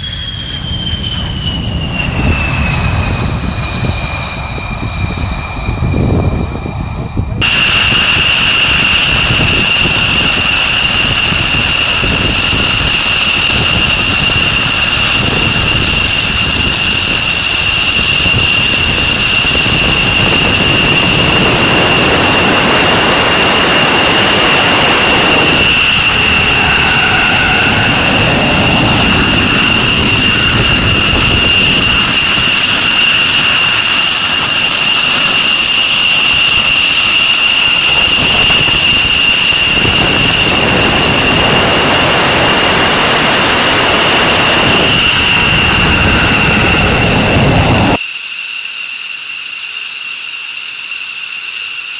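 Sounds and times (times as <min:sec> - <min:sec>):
jet engine rush: 0:00.0 - 0:48.0
jet engine turbine whine: 0:00.0 - 0:51.9.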